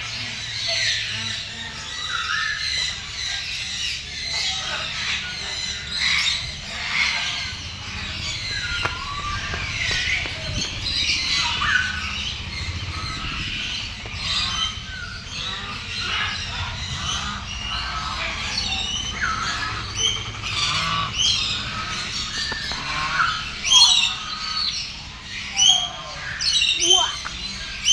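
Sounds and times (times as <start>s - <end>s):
birds squawking and chirping: 0.0s - 27.9s.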